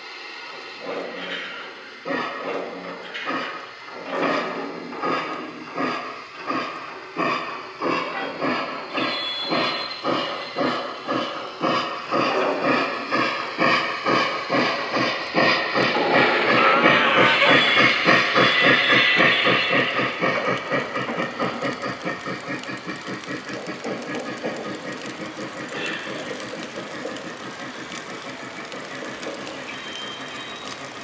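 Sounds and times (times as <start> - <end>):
model train steam chuffs: 0.0 - 31.0.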